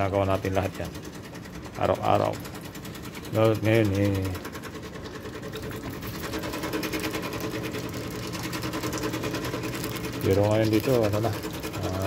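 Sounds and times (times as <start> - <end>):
vending machine humming and buzzing: 0.0 - 12.0.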